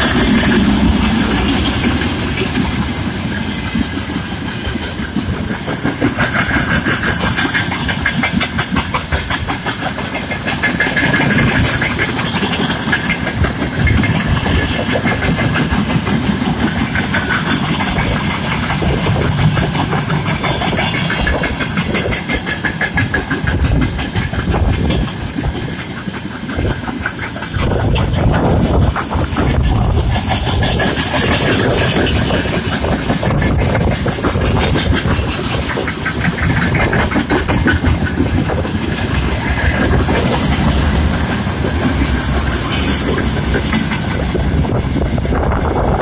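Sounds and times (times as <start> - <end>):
train rumble: 0.0 - 46.0
wheels clicking over rail joints: 0.0 - 46.0.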